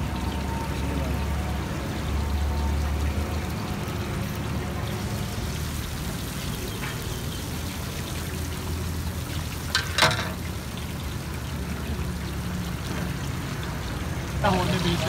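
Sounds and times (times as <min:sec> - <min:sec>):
fish deep-frying in oil: 0:00.0 - 0:15.0.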